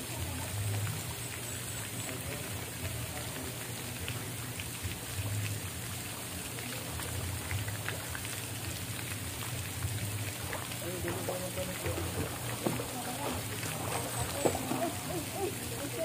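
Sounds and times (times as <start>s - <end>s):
water splashing in pool: 0.0s - 16.0s.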